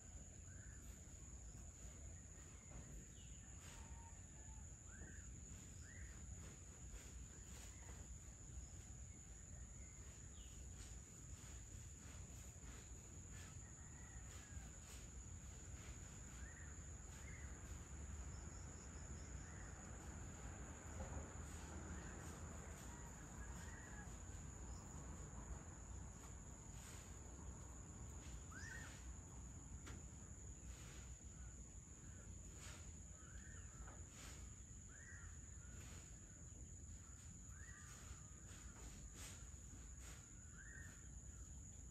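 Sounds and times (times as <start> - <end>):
insect drone: 0.0 - 41.9.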